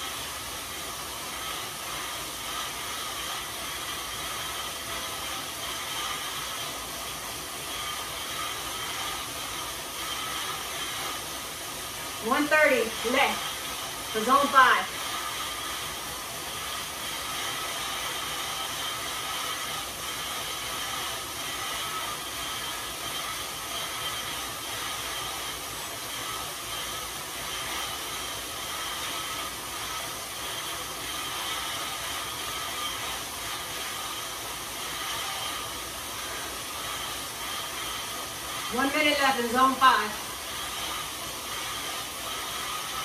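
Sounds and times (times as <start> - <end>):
bike tyres whirring on rollers: 0.0 - 43.0.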